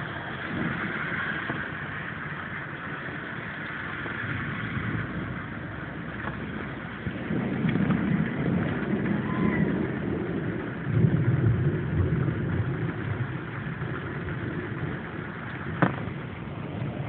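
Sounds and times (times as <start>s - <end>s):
low rumble: 0.0s - 17.0s
storm wind blowing: 0.0s - 17.0s.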